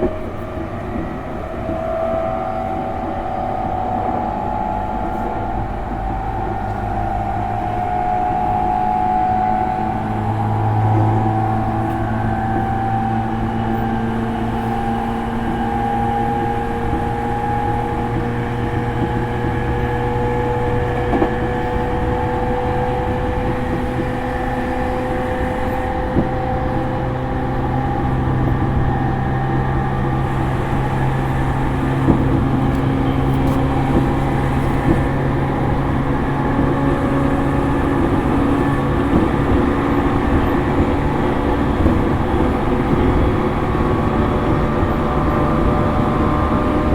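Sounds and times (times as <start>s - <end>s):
traction motor hum: 0.0s - 46.9s
train interior rumble: 0.0s - 46.9s
wheels clicking on rails: 0.0s - 46.9s.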